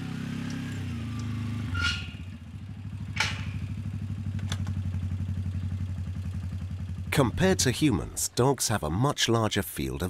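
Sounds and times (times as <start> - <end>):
quad bike engine running: 0.0 - 8.2.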